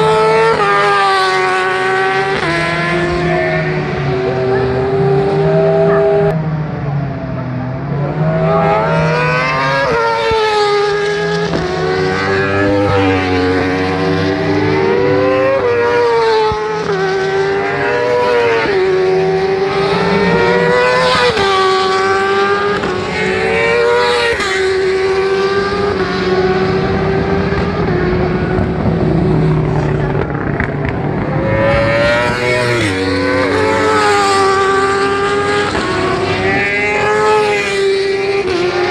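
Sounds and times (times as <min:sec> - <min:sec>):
racing motorbike engines revving: 0:00.0 - 0:38.9.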